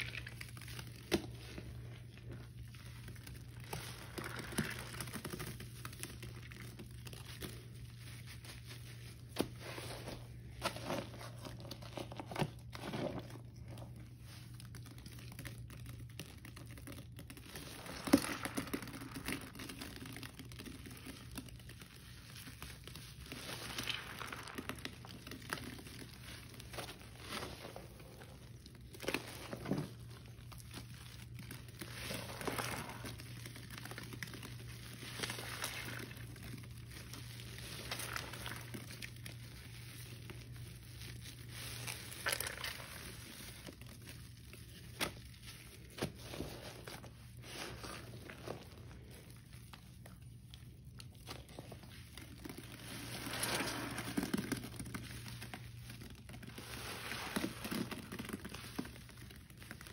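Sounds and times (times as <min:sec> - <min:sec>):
wet sponge squelches: 0:00.0 - 0:59.9.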